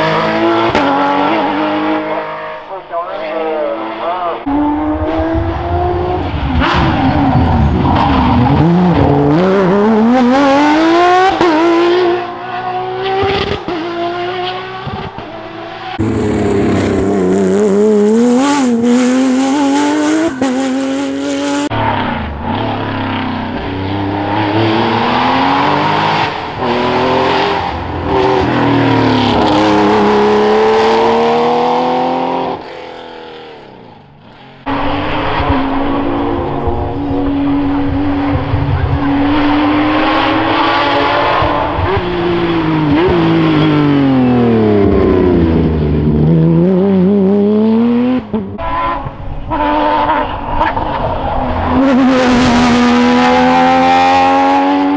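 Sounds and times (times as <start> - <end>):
cars passing: 0.0 - 54.9
rally car engines revving: 0.0 - 54.9.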